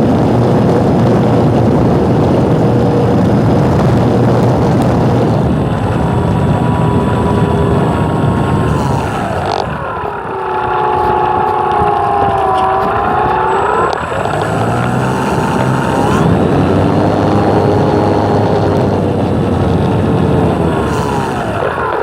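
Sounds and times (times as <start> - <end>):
propeller aircraft engine whining: 0.0 - 22.0
wind noise on microphone: 0.0 - 22.0.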